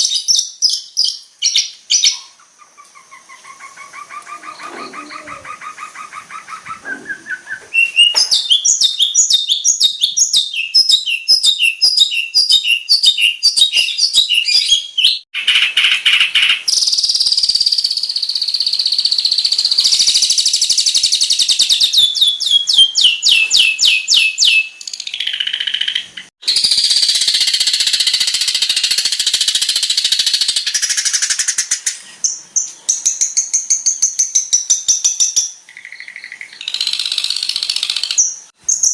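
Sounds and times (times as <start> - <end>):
shrike chirps and trills: 0.0 - 38.9.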